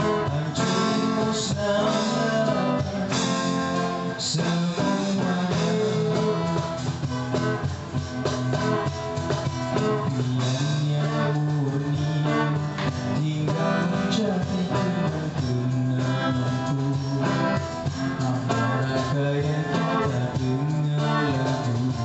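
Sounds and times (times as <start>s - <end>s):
busking band playing: 0.0s - 22.0s
guitar: 0.0s - 22.0s
steady percussion: 0.0s - 22.0s.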